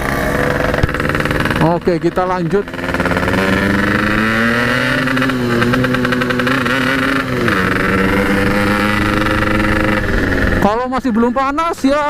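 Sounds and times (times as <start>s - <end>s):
two-stroke motorcycle engine: 0.0s - 12.0s.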